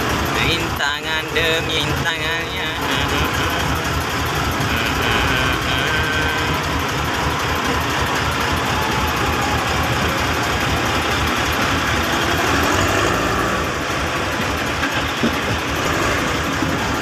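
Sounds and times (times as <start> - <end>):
heavy machinery engine running: 0.0 - 17.0.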